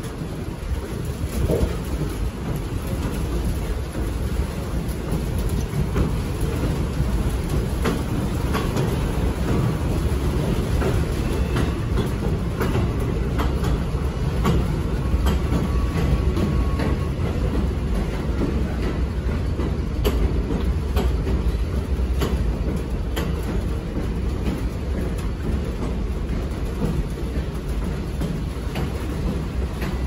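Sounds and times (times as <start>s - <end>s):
train wheels rumbling on rail: 0.0s - 30.0s
wheels clicking over rail joints: 0.0s - 30.0s.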